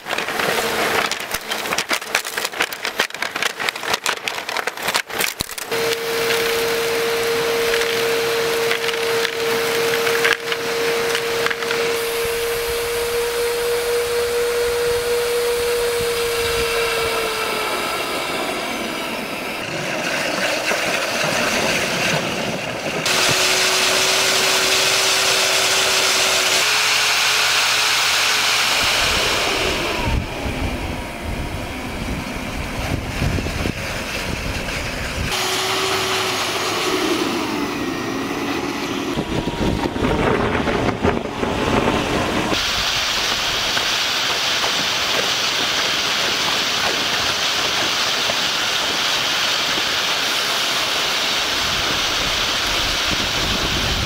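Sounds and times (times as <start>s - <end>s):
rushing air: 0.0s - 54.0s
vacuum cleaner motor whining: 0.0s - 54.0s.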